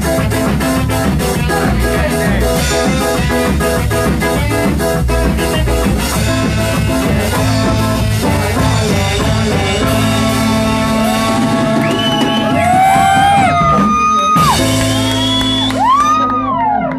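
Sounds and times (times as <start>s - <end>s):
live band playing: 0.0s - 16.9s.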